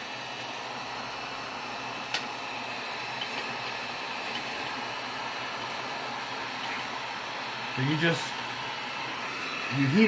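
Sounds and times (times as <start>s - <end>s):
heat gun blowing: 0.0s - 10.0s.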